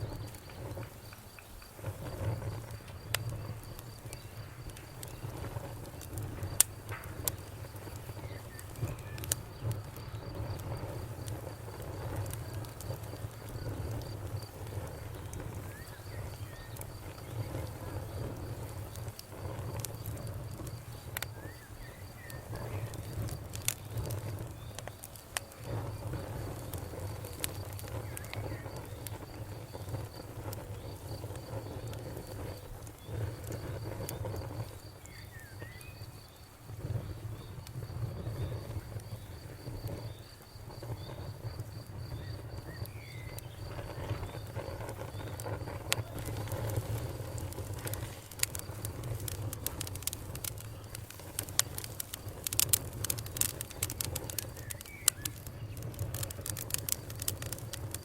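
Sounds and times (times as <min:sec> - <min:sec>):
campfire crackling: 0:00.0 - 0:58.0
cricket chirping: 0:00.0 - 0:58.0.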